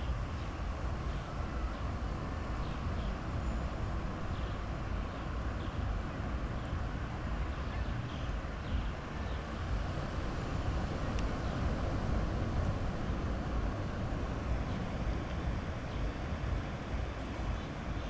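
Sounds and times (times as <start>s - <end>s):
sea waves washing onto beach: 0.0s - 18.0s.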